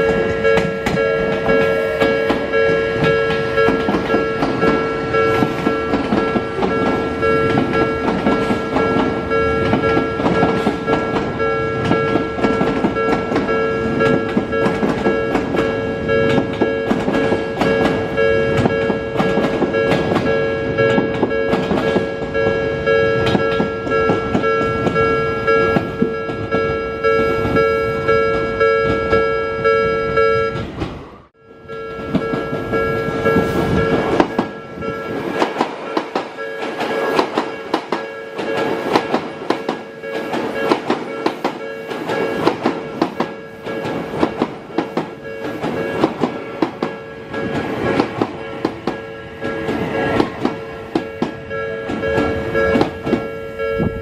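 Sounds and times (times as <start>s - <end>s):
train wheels clicking over rail joints: 0.0s - 29.3s, 32.0s - 54.0s
level crossing warning alarm: 0.0s - 54.0s.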